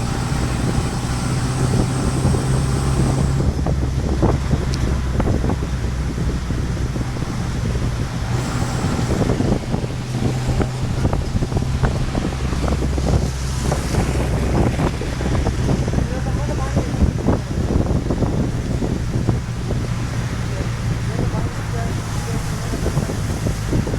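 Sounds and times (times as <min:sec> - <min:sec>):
low hum: 0:00.0 - 0:21.9
heavy rain: 0:00.0 - 0:23.9
wind buffeting microphone: 0:00.0 - 0:23.9.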